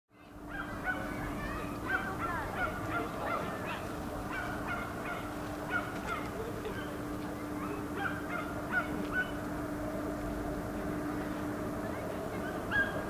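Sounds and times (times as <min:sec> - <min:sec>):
steady low hum: 0:00.1 - 0:13.0
birds calling: 0:00.2 - 0:13.0.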